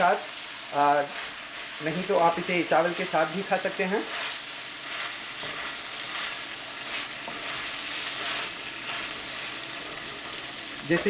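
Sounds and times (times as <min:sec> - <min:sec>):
peppers sizzling in oil: 0:00.0 - 0:11.0
wooden spatula stirring: 0:01.0 - 0:10.2.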